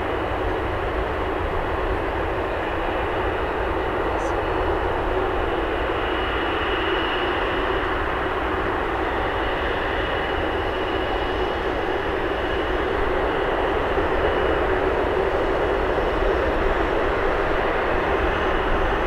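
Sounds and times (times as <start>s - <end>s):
jet engines rushing with whine: 0.0s - 19.0s.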